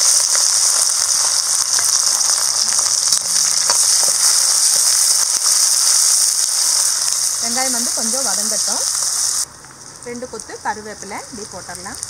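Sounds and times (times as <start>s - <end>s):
shallots sizzling in hot oil: 0.0s - 12.0s.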